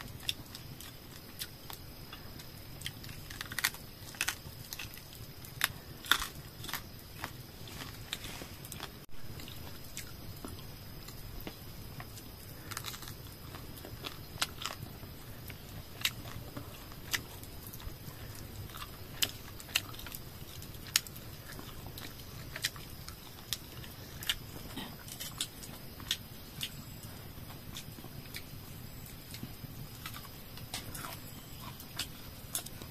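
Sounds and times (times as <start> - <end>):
biting and chewing crunchy bones: 0.0 - 32.9.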